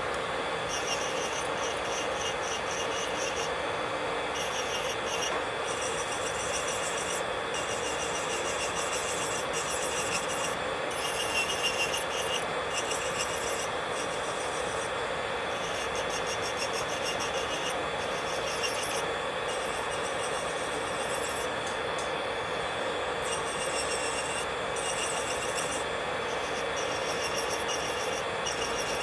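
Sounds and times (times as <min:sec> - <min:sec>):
electric nail drill whining: 0:00.0 - 0:29.0
drill bit grinding on fingernail: 0:00.1 - 0:29.0.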